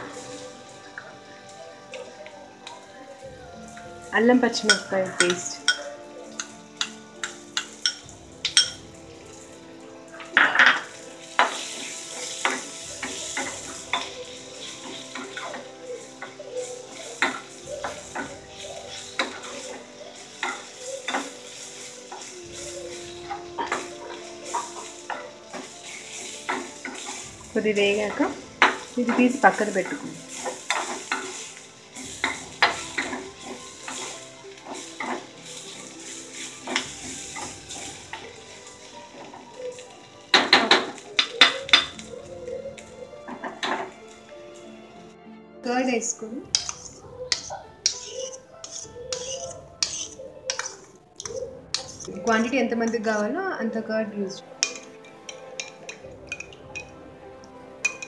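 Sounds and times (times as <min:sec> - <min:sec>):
onions sizzling in hot oil: 0:00.0 - 0:45.0, 0:45.9 - 0:53.6, 0:54.3 - 0:58.0
spoon scraping and clinking on pan: 0:04.5 - 0:08.8, 0:10.2 - 0:42.6, 0:46.4 - 0:53.1, 0:54.4 - 0:58.0.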